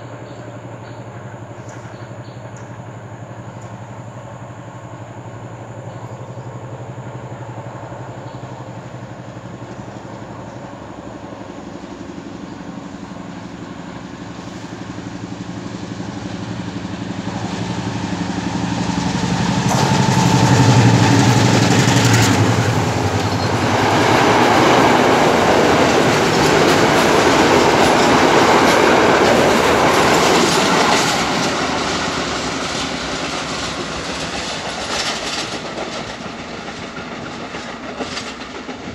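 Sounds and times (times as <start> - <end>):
diesel locomotive engine: 0.0 - 38.9
train wheels on rails: 0.0 - 38.9.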